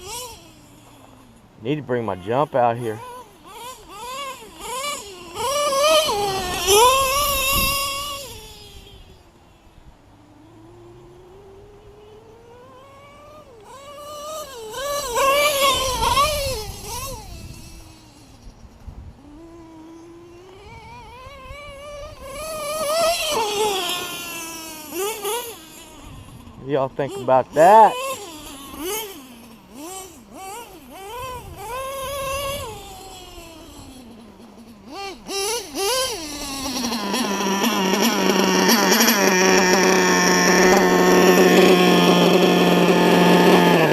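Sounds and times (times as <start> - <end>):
high-pitched nitro engine revving: 0.0 - 9.6, 10.3 - 43.9.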